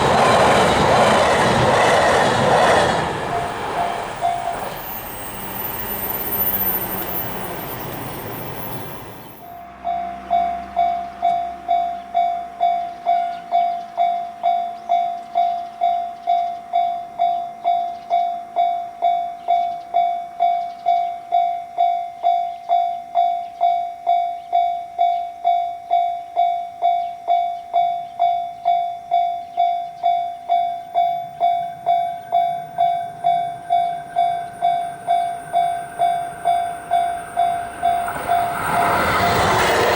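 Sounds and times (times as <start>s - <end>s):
train passing: 0.0s - 20.6s, 27.7s - 39.9s
level-crossing alarm ringing: 0.0s - 39.9s.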